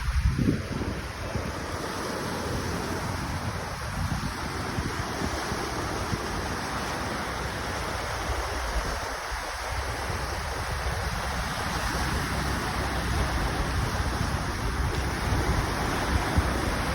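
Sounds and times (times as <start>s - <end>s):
wind on microphone: 0.0s - 16.9s.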